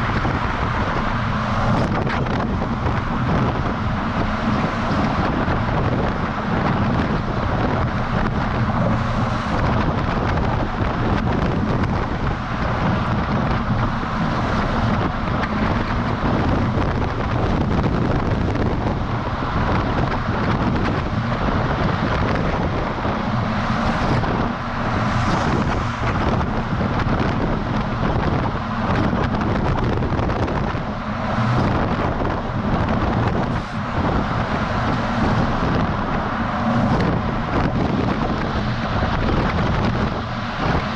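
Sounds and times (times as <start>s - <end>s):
truck engine and tyre noise: 0.0s - 40.9s
wind buffeting microphone: 0.0s - 40.9s.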